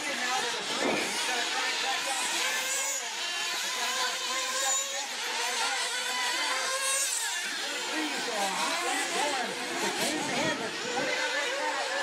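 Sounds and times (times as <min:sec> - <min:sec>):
rc buggy engines buzzing: 0:00.0 - 0:12.0.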